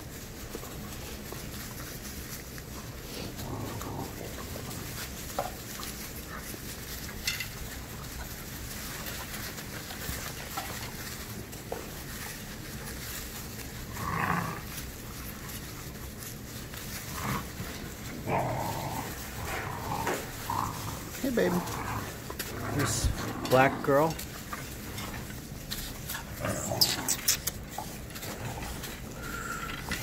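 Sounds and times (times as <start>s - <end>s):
puppies moving in wood shavings: 0.0s - 30.0s.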